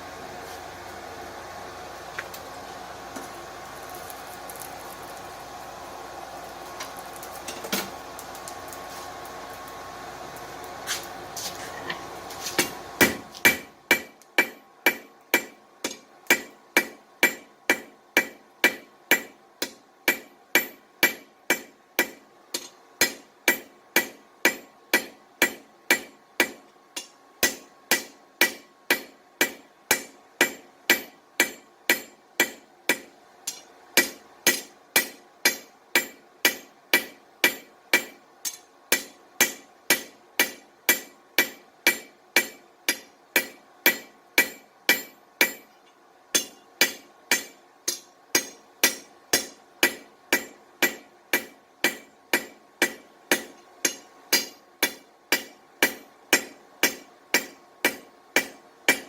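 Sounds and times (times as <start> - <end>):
hammer striking hot steel: 6.7 - 8.8, 10.8 - 59.0.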